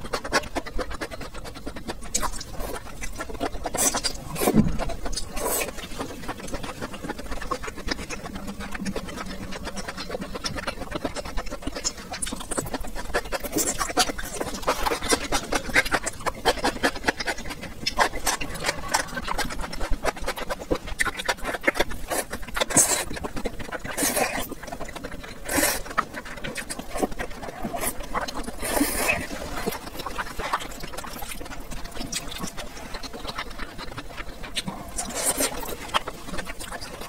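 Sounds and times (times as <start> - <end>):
slurping noodles: 0.0 - 37.0
wet chewing with crunchy clicks: 0.0 - 37.0.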